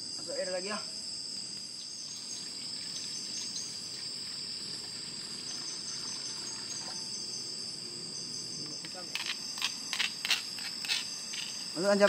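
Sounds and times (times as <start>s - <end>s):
night insects chorus: 0.0s - 12.0s.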